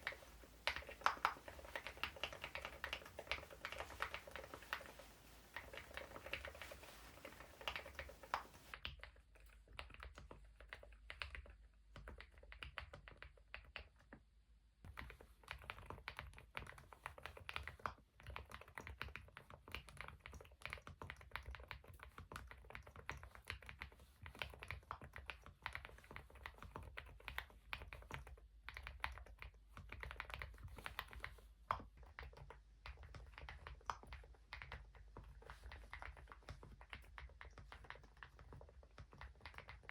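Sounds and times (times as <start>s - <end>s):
quiet keyboard typing: 0.0s - 39.9s.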